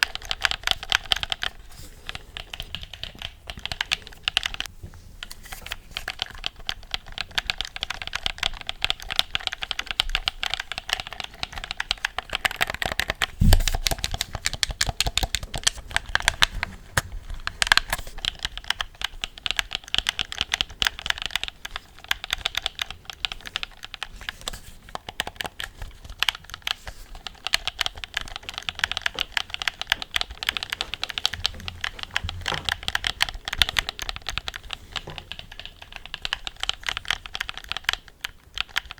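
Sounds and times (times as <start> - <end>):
rapid small clicks and taps: 0.0 - 38.9.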